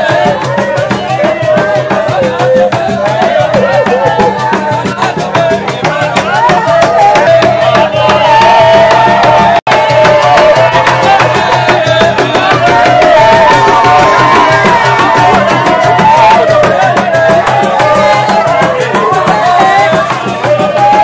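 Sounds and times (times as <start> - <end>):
group singing slow hymn-like song: 0.0 - 21.0
steady drum beat: 0.0 - 21.0.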